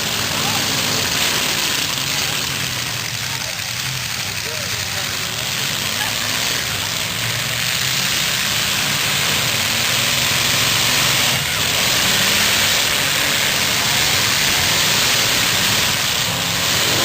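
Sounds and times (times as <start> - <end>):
car engines running: 0.0 - 17.0.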